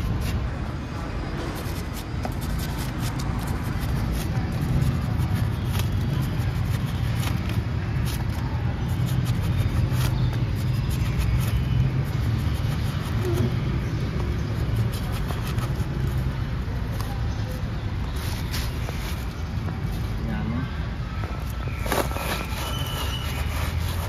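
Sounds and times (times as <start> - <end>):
motor traffic hum: 0.0 - 24.0.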